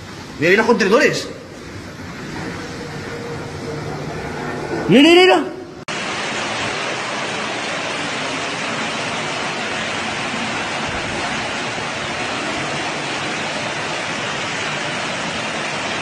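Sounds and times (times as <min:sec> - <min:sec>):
torrential rain pouring: 0:00.0 - 0:16.0.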